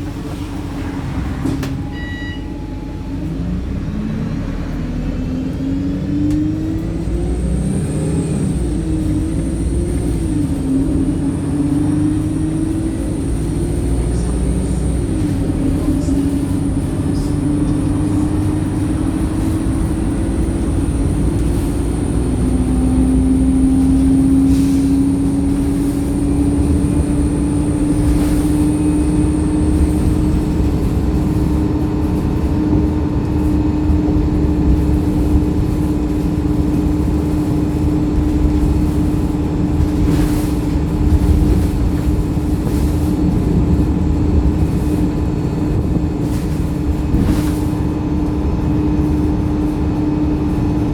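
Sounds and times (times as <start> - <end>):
bus diesel engine: 0.0 - 50.9
road rumble: 0.0 - 50.9.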